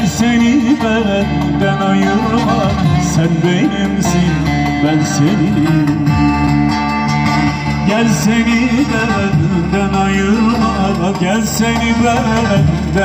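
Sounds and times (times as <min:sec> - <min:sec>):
man singing: 0:00.0 - 0:06.7, 0:07.5 - 0:13.0
plucked amplified lute: 0:00.0 - 0:13.0.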